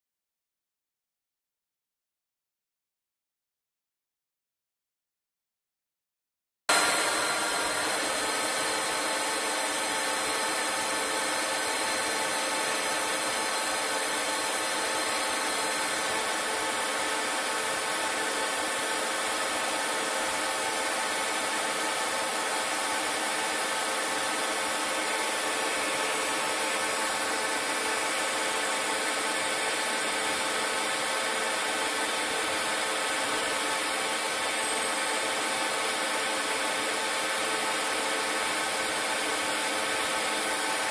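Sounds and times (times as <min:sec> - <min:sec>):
lathe spindle whirring: 0:06.7 - 0:40.9.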